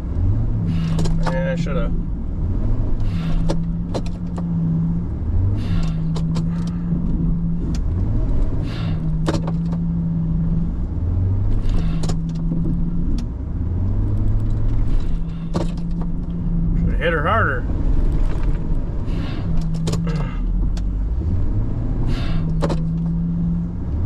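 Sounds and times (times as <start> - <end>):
truck engine straining: 0.0 - 24.0.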